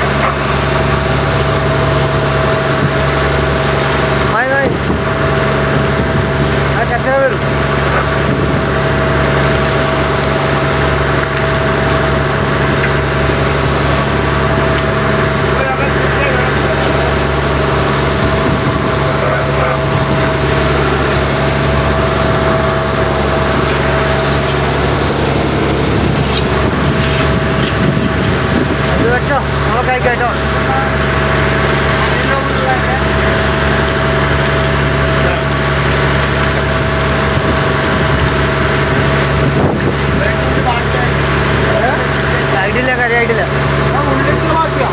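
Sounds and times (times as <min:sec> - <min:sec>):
boat engine droning: 0:00.0 - 0:44.9.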